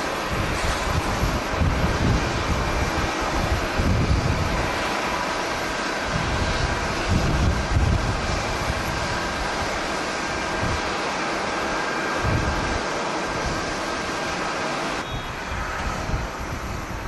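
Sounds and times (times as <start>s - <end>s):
wind buffeting microphone: 0.0s - 14.2s, 15.2s - 17.0s
jet engines hissing: 0.0s - 17.0s.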